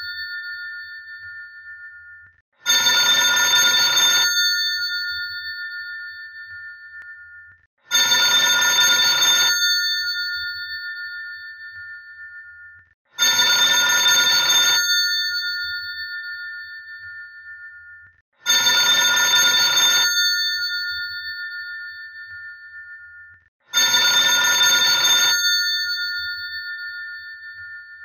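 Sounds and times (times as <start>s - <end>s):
telephone bell ringing: 0.0s - 28.0s.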